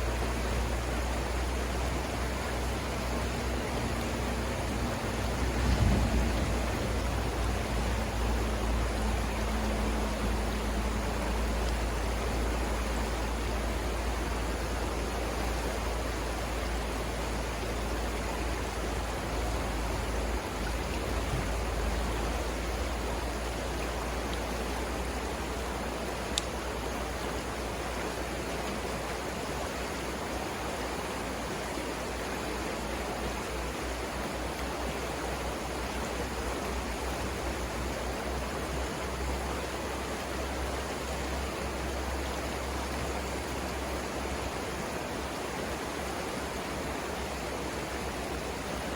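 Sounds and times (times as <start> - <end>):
river rushing over rapids: 0.0 - 48.9.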